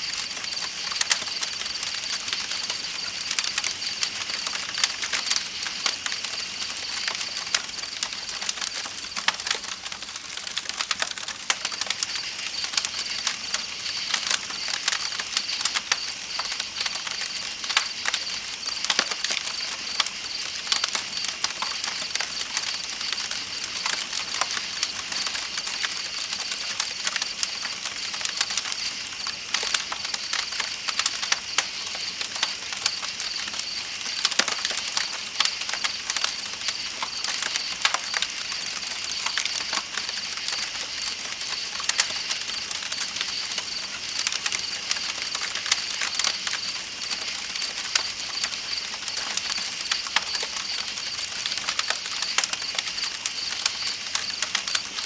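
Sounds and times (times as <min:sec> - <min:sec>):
night insects chirring: 0:00.0 - 0:10.4, 0:11.2 - 0:55.0
campfire crackling and popping: 0:00.0 - 0:55.0.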